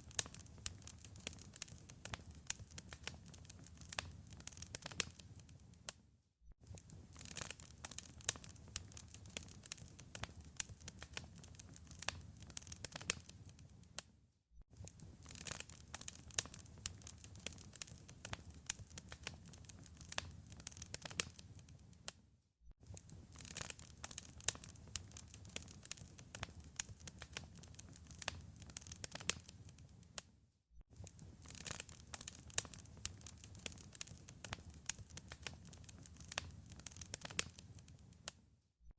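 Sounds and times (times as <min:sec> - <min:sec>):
fire crackling: 0:00.0 - 0:06.0, 0:06.6 - 0:14.0, 0:14.8 - 0:22.2, 0:22.8 - 0:30.2, 0:30.9 - 0:38.4.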